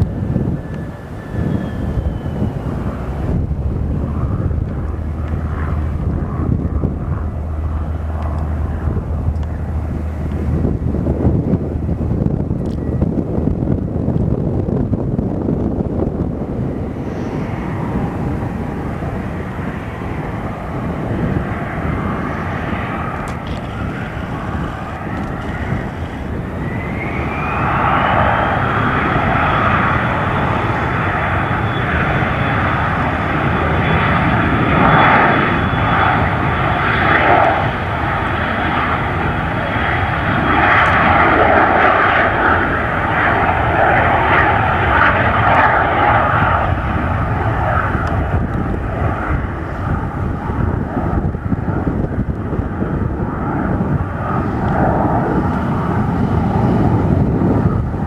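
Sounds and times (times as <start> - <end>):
engine rush: 0.0 - 58.0
turbine engine whine: 0.0 - 58.0.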